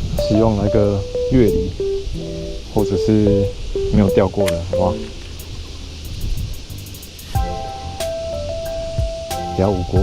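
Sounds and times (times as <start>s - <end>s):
faint background music: 0.0s - 10.0s
wind noise: 0.0s - 10.0s.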